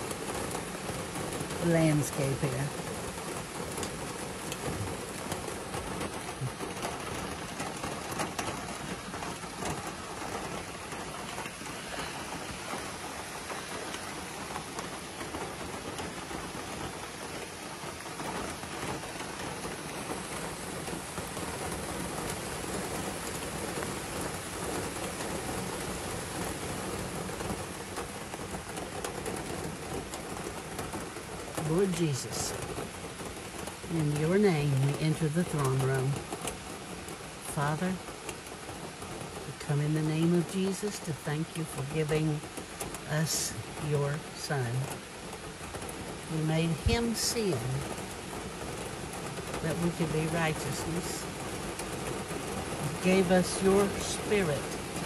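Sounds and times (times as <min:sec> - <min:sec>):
heavy rain on a vehicle roof: 0:00.0 - 0:55.0.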